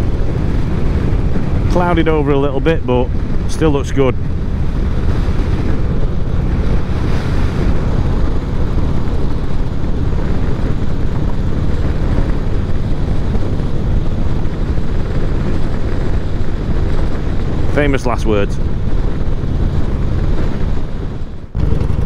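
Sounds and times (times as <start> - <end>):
motorcycle engine drone: 0.0 - 22.0
wind rush on microphone: 0.0 - 22.0.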